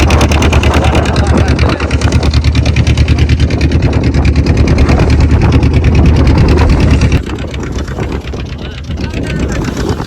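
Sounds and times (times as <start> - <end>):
boat engine pulsing: 0.0 - 10.0.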